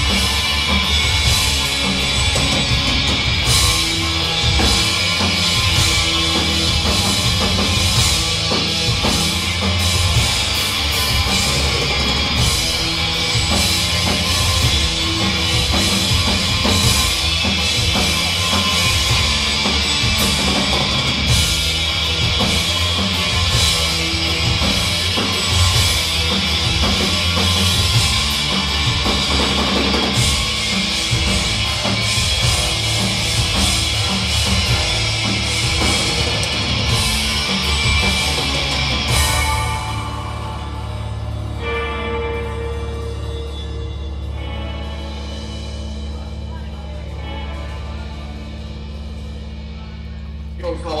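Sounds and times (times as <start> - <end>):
punk band playing live: 0.0 - 51.0.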